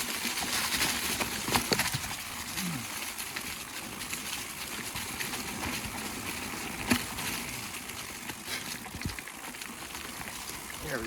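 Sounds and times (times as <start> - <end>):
twigs cracking: 0.0 - 9.8.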